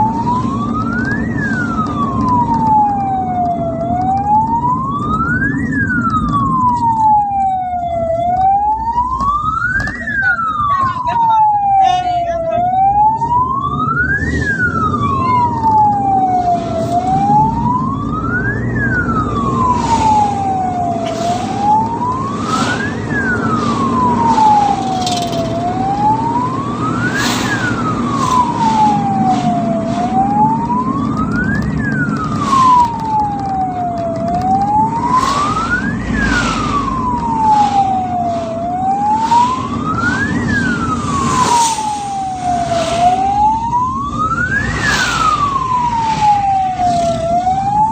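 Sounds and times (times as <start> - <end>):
ambulance siren wailing: 0.0 - 47.9
vehicle rumble: 0.0 - 47.9.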